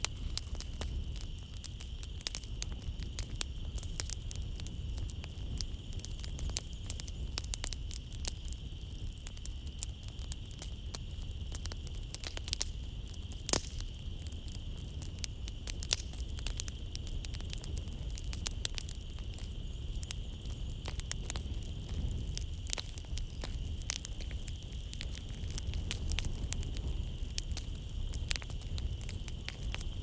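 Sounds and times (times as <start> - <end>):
night insects droning: 0.0 - 30.0
wood fire crackling: 0.0 - 30.0.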